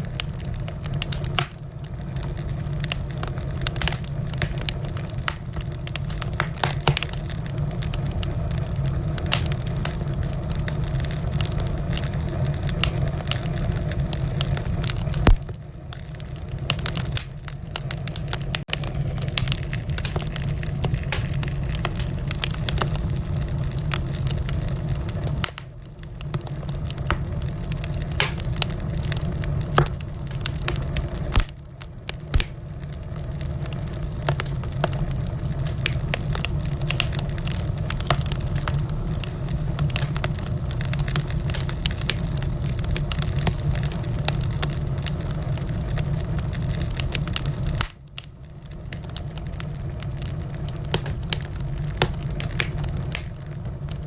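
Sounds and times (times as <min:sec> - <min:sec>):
low rumble of fire: 0:00.0 - 0:54.0
wood fire crackling and popping: 0:00.0 - 0:54.0.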